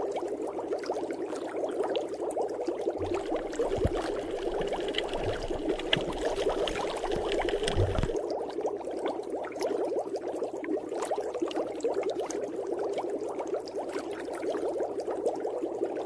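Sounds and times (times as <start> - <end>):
water bubbling: 0.0 - 16.0.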